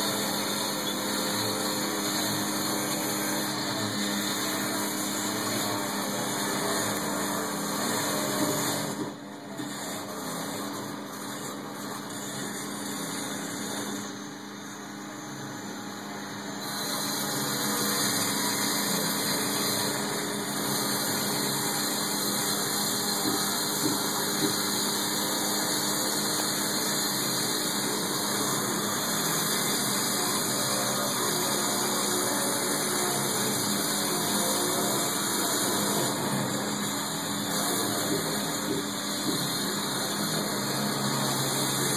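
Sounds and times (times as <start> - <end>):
power grinder whine: 0.0 - 41.9.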